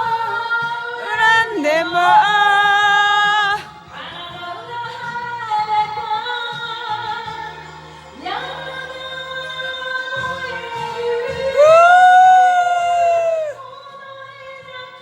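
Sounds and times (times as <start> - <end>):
karaoke backing track: 0.0 - 15.0
woman singing a ballad: 0.0 - 15.0.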